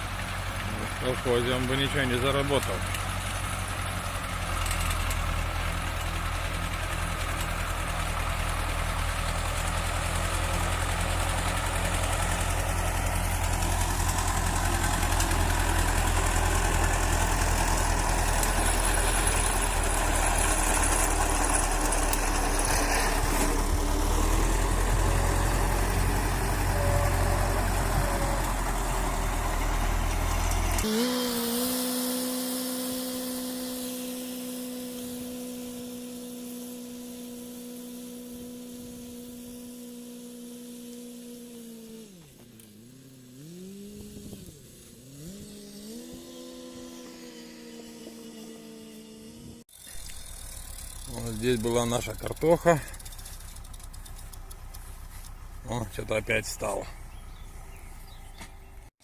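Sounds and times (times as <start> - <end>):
tractor mower engine running: 0.0 - 59.0.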